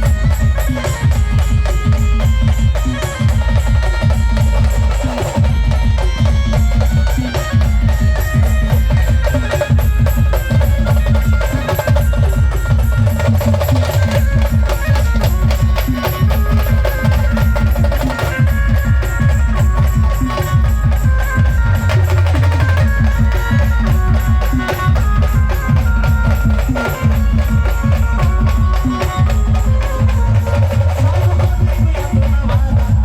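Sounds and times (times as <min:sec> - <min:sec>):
drum and percussion beat: 0:00.0 - 0:33.0.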